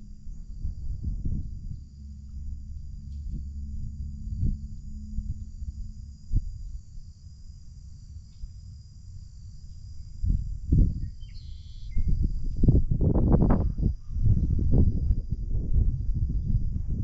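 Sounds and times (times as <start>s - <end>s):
wind buffeting microphone: 0.0s - 6.9s, 10.1s - 17.0s
high-pitched insect trill: 0.0s - 17.0s.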